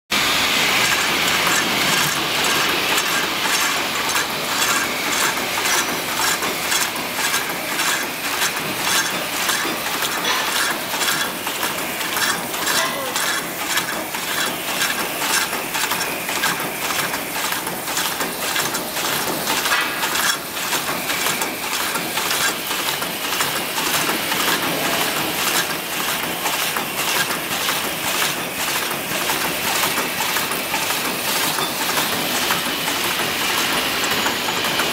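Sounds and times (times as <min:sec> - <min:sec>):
wrapping machine clattering: 0:00.5 - 0:34.9
machine clicks: 0:00.8 - 0:34.9.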